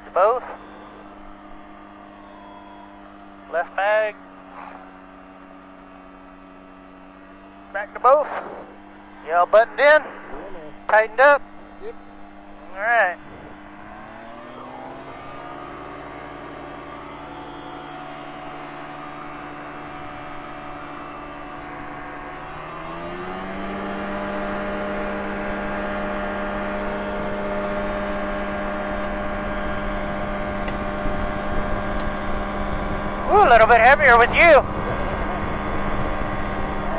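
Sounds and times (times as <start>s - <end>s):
light aircraft engine running: 0.0s - 36.9s.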